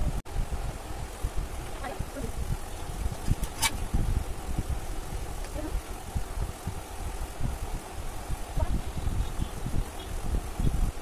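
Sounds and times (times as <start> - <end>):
low uneven background rumble: 0.0 - 11.0.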